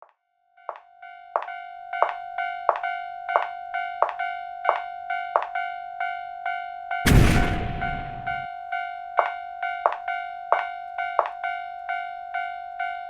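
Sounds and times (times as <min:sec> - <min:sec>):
railroad crossing bell ringing: 0:01.0 - 0:07.0, 0:08.5 - 0:13.0.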